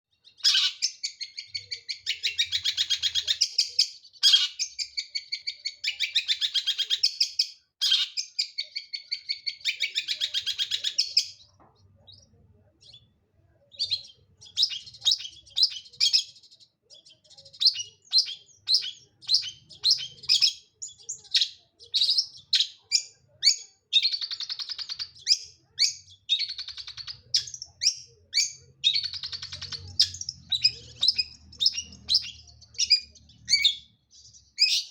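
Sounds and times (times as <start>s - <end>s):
bird buzzy chattering song: 0.1s - 13.1s, 13.7s - 34.9s.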